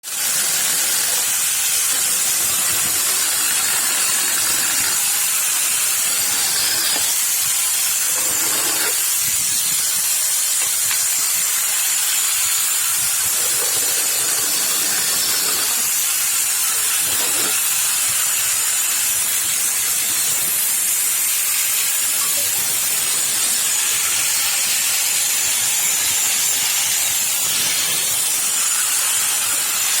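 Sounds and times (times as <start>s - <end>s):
angle grinder with high hiss: 0.0s - 30.0s.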